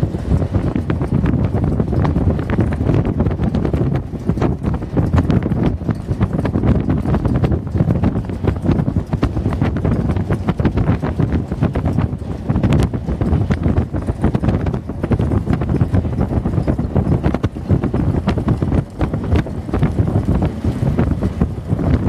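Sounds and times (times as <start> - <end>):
horse hoofbeats: 0.0 - 22.0
vehicle rumble: 0.0 - 22.0
wind buffeting microphone: 0.0 - 22.0.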